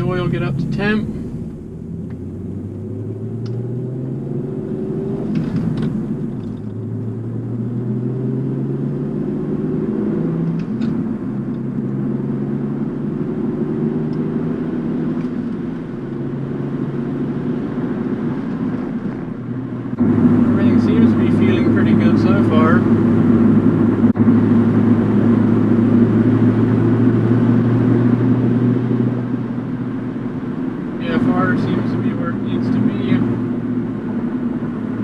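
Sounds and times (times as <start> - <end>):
car engine driving: 0.0 - 35.0
road noise: 0.0 - 35.0.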